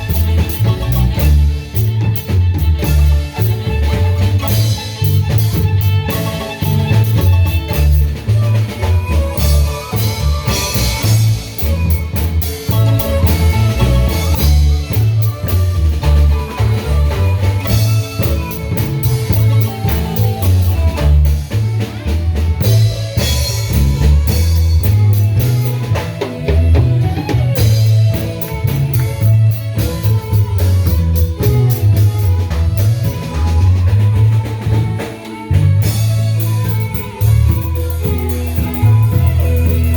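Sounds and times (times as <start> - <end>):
bass line: 0.0 - 39.9
drum kit: 0.0 - 39.9
marimba ensemble playing: 0.0 - 39.9.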